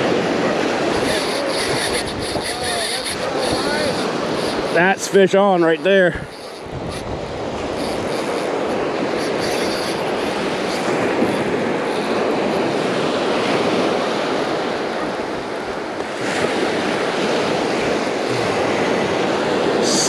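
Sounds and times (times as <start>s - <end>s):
surf washing on beach: 0.0s - 20.0s.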